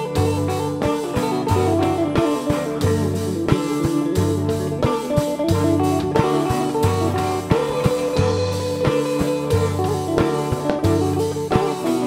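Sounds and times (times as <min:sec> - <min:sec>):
deep bass notes: 0:00.0 - 0:12.0
electric guitar lines: 0:00.0 - 0:12.0
percussion hits: 0:00.0 - 0:12.0.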